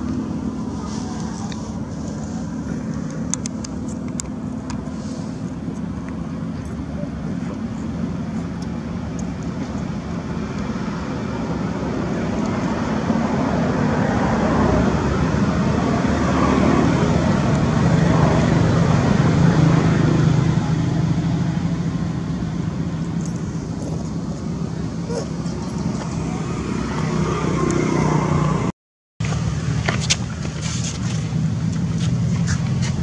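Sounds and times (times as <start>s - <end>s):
passing vehicle engine hum: 0.0s - 33.0s
road traffic: 0.0s - 33.0s.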